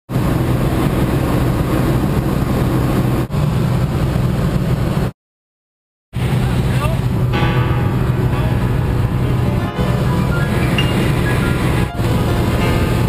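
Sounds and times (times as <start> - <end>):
propeller aircraft engine droning: 0.1 - 5.2, 6.2 - 13.0.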